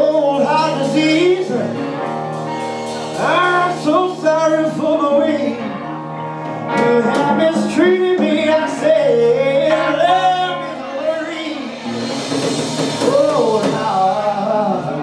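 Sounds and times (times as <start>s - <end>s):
blues-rock band playing: 0.0s - 15.0s
lead guitar bent notes: 0.0s - 15.0s.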